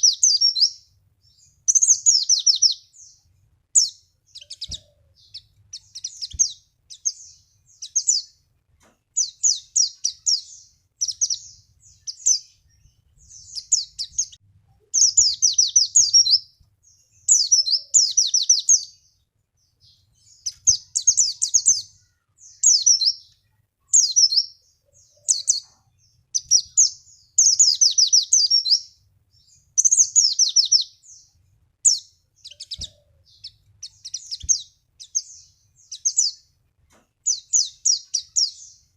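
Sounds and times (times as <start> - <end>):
bird twittering trills: 0.0 - 8.4, 9.1 - 36.5, 37.2 - 38.9.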